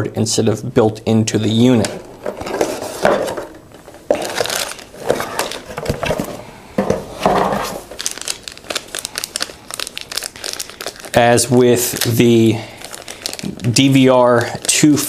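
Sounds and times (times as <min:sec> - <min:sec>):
plastic crinkling and rustling: 0:01.8 - 0:15.0.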